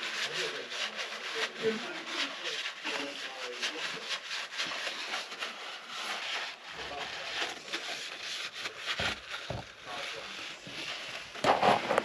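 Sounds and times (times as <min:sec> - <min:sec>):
cloth rag scrubbing floor: 0:00.0 - 0:12.0.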